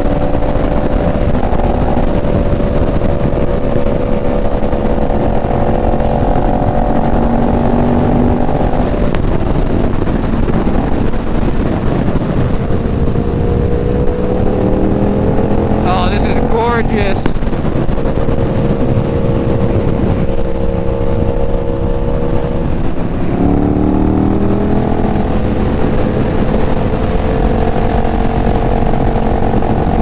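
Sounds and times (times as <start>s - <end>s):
motorcycle engine running: 0.0s - 30.0s
wind rush: 0.0s - 30.0s.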